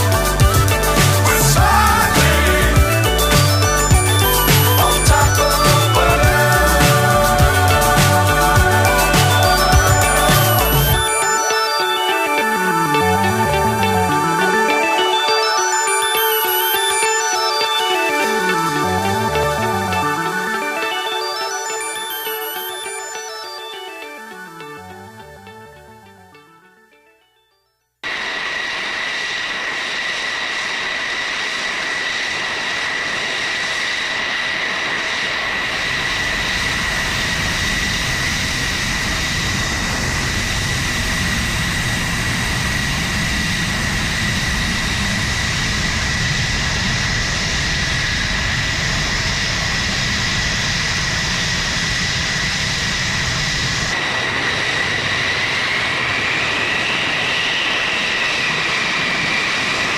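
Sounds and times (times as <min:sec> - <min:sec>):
jet engine turbine whine: 0:00.0 - 0:24.9, 0:28.0 - 0:59.9.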